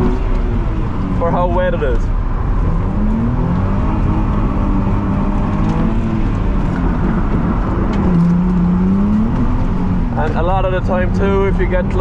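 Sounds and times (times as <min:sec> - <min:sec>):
car engine revving: 0:00.0 - 0:12.0
steady rushing noise: 0:00.0 - 0:12.0.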